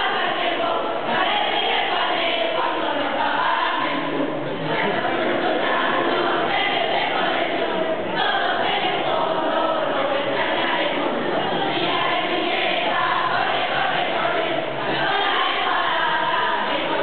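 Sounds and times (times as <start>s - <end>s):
choir singing a carol: 0.0s - 17.0s.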